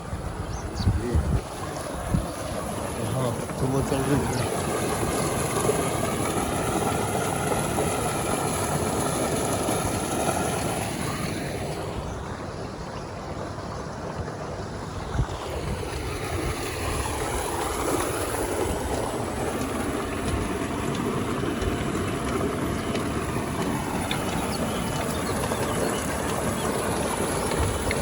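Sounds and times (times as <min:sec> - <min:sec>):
pump rumbling: 0:00.0 - 0:28.0
rushing water: 0:00.0 - 0:28.0.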